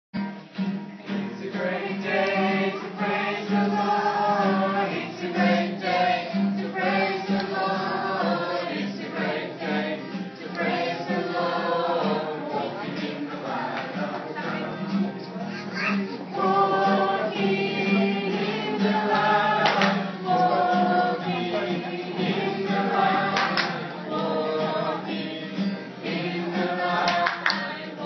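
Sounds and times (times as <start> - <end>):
strummed acoustic guitar: 0.2 - 28.0
children singing: 1.1 - 28.0.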